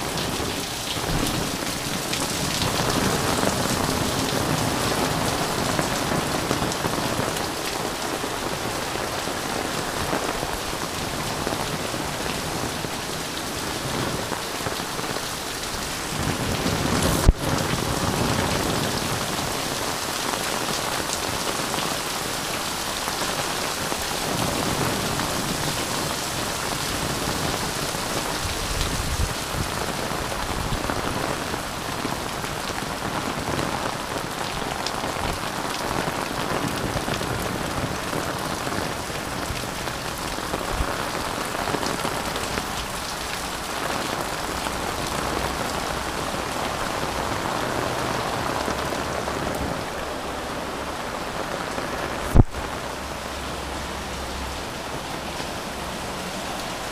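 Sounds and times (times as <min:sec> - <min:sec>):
heavy rain on an umbrella: 0:00.0 - 0:56.9.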